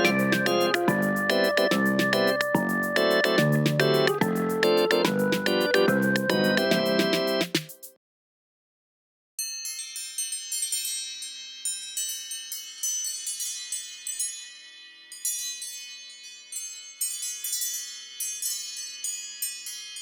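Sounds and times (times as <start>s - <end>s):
wind-chime-like ringtone: 0.0s - 7.4s, 9.4s - 20.0s.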